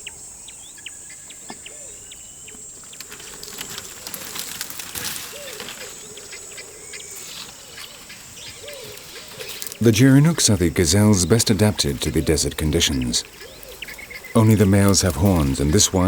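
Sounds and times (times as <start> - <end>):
high buzz of insects: 0.0 - 16.0
low wavering bird calls: 0.0 - 16.0.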